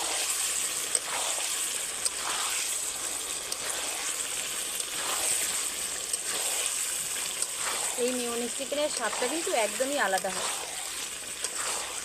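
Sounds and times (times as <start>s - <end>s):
chicken sizzling in oil: 0.0s - 12.0s
spatula sweeping through food: 0.0s - 12.0s.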